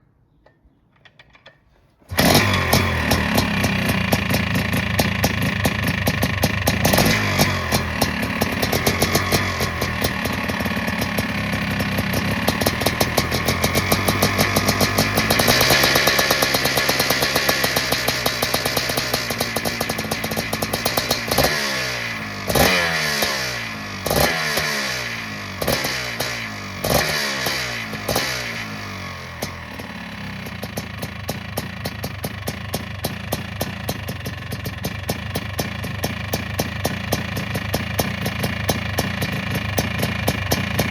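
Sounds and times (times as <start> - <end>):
two-stroke engine revving: 2.1 - 40.9.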